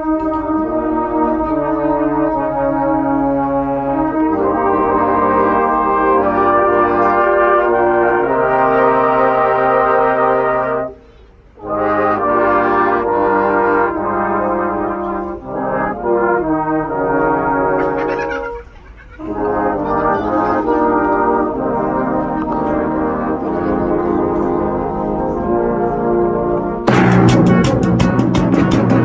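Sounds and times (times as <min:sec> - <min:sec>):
brass band playing chords: 0:00.0 - 0:29.0.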